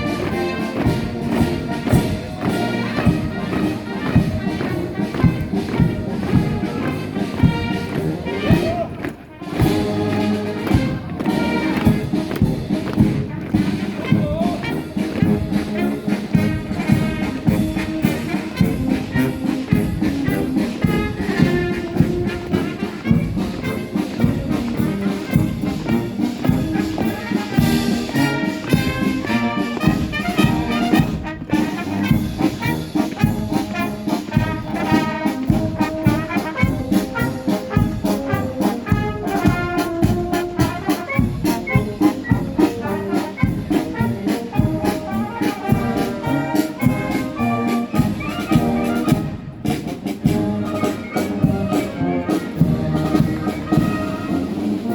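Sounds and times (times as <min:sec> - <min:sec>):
brass band playing a march: 0:00.0 - 0:54.9
steady drum beat: 0:00.0 - 0:54.9.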